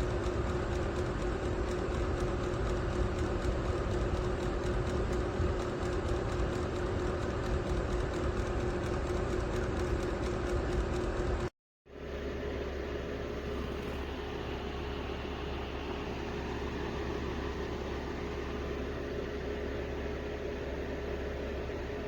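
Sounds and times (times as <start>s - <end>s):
heater fan whirring: 0.0s - 22.0s.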